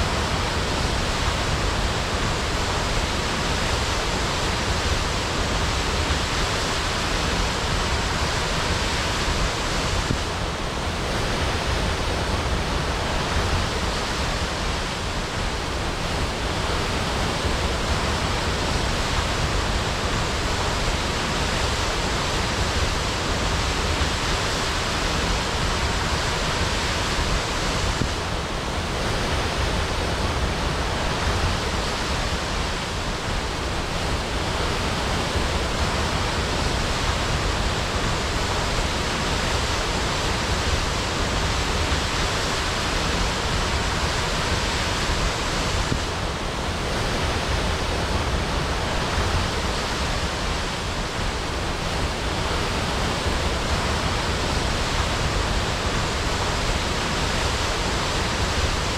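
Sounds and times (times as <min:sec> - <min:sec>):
waterfall crashing: 0:00.0 - 0:58.9.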